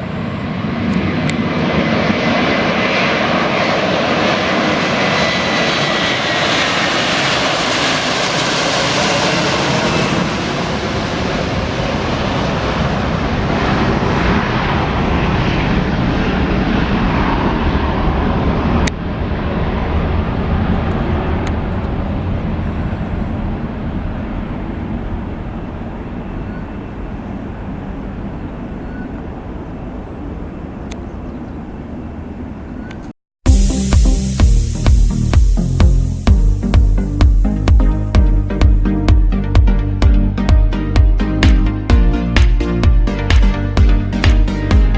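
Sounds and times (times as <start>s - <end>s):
faint jet whine: 0.0s - 40.0s
jet engine rumble: 0.0s - 44.9s.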